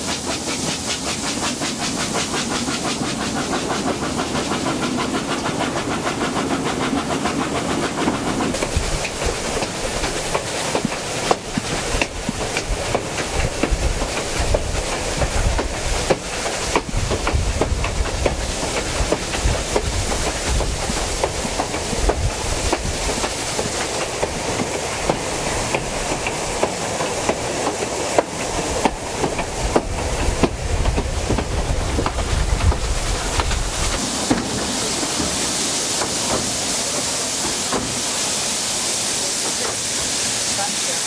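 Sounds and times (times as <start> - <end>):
steam hissing: 0.0 - 41.0
carriage wheels rumbling and clicking: 0.1 - 35.4.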